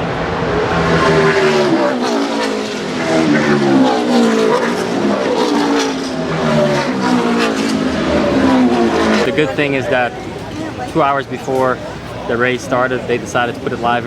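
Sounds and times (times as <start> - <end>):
race car engines accelerating: 0.0 - 14.0.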